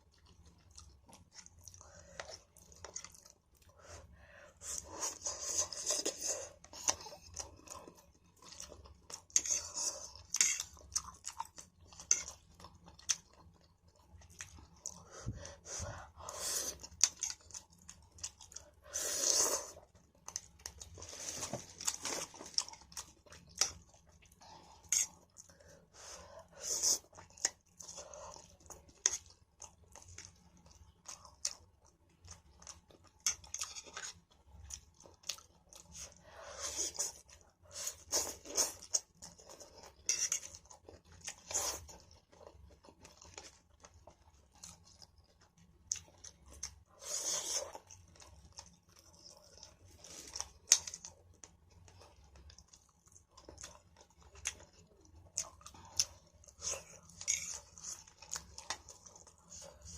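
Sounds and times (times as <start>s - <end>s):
person chewing noodles: 0.0s - 59.9s.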